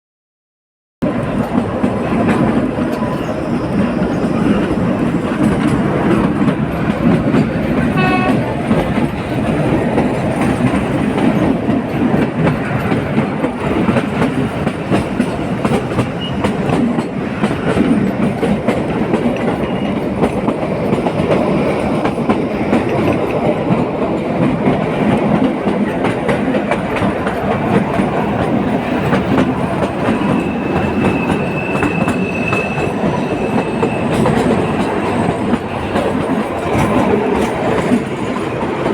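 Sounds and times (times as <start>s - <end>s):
train wheels rumbling and rattling: 1.0s - 38.9s.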